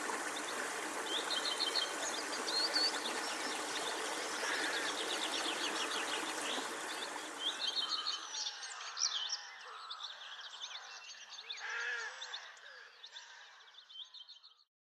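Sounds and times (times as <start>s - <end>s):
songbirds chirping: 0.0s - 14.6s.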